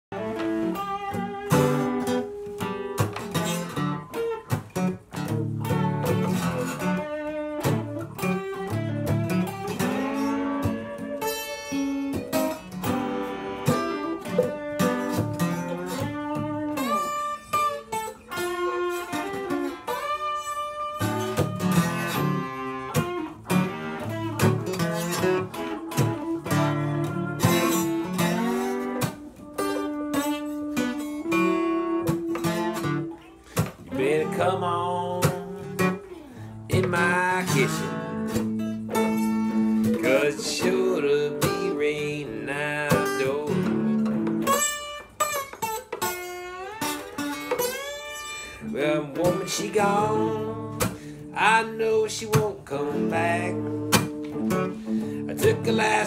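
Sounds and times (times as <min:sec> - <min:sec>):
acoustic guitar playing blues: 0:00.0 - 0:56.0
electric guitar playing blues: 0:00.0 - 0:56.0.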